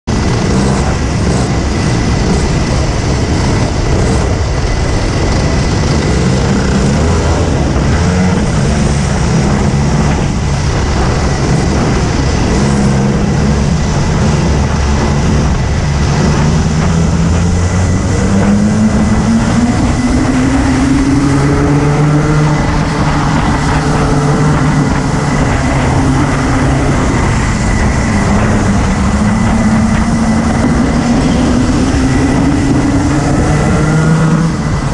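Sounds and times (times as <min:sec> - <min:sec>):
kart engine racing: 0:00.0 - 0:34.9
other karts passing: 0:00.1 - 0:34.9.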